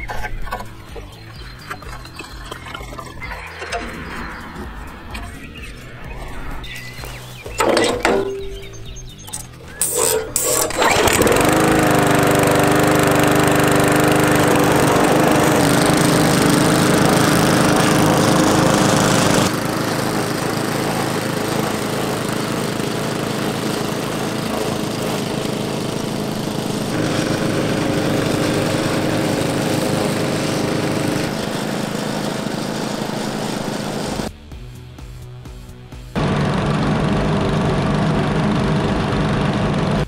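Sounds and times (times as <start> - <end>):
lawn mower engines running: 0.0 - 6.1, 7.0 - 40.0.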